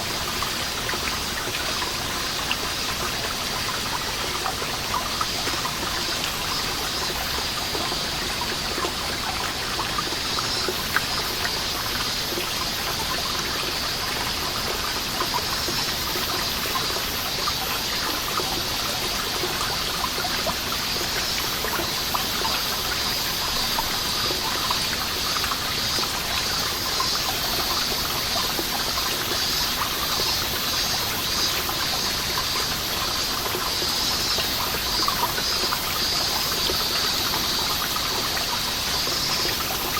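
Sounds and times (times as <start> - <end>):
cicadas singing: 0.1 - 39.9.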